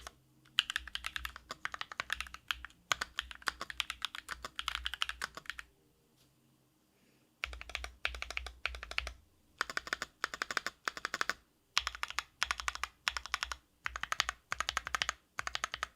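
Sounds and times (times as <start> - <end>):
mechanical keyboard typing: 0.0 - 5.7, 7.4 - 15.9.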